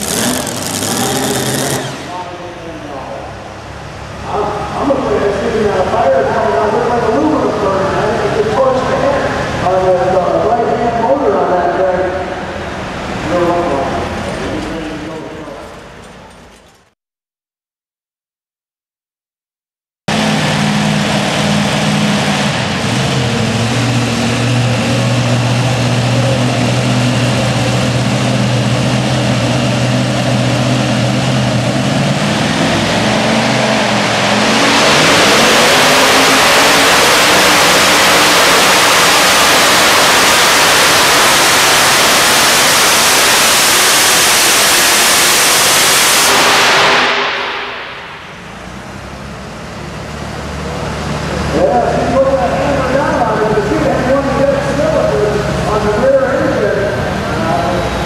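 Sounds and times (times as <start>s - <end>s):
tractor engine idling and revving: 0.0s - 17.0s, 20.1s - 58.0s.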